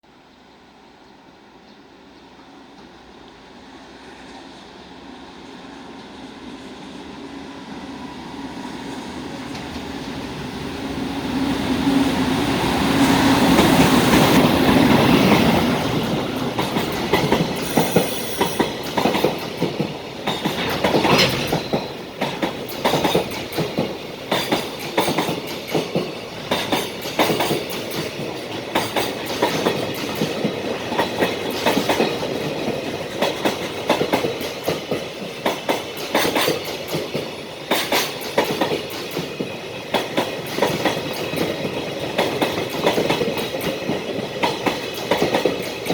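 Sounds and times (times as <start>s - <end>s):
electric locomotive humming: 0.8s - 45.9s
train wheels clickety-clack: 8.8s - 45.9s.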